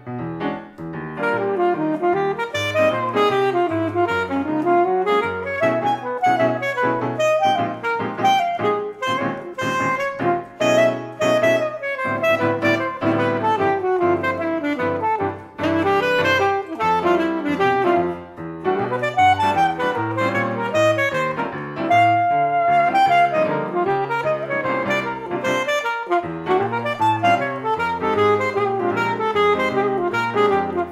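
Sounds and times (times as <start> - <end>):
alto saxophone: 0.0 - 30.9
piano chords: 0.0 - 30.9.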